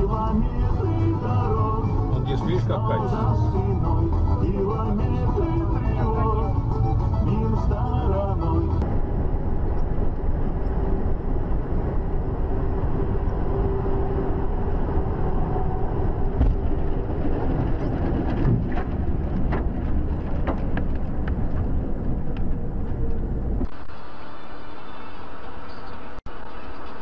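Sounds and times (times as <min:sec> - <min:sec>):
vehicle road and engine rumble: 0:00.0 - 0:27.0.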